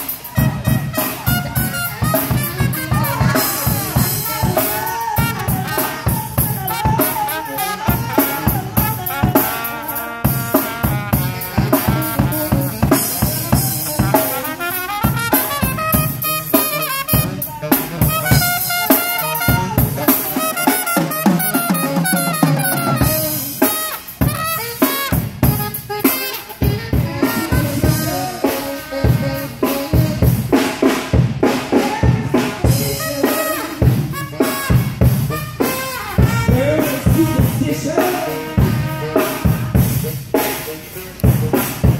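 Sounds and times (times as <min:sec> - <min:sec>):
drum kit beat: 0:00.0 - 0:41.9
saxophone: 0:00.0 - 0:41.9
trumpet: 0:00.0 - 0:41.9.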